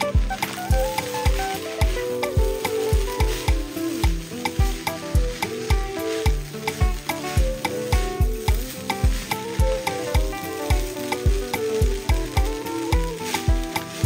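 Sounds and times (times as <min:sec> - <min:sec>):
background music with kick drum: 0:00.0 - 0:14.0
rice sizzling in a pan: 0:00.0 - 0:14.0.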